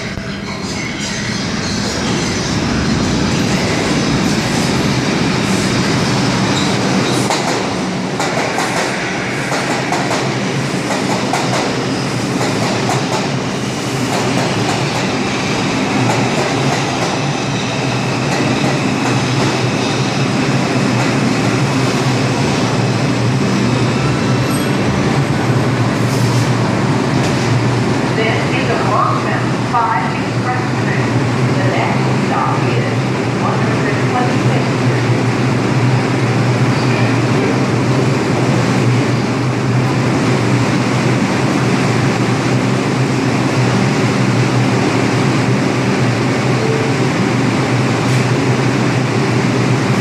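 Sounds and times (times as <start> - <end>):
subway train rumbling: 0.0 - 50.0.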